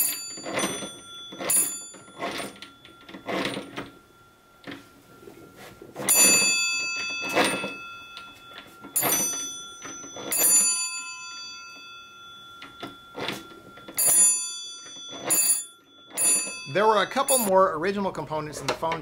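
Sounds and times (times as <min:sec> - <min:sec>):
telephone bells ringing: 0:00.0 - 0:17.6.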